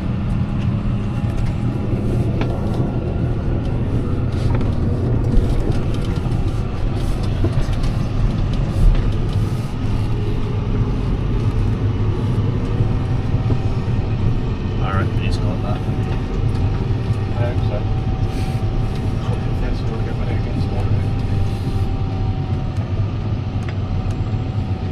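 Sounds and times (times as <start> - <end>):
diesel engine humming: 0.0 - 24.9.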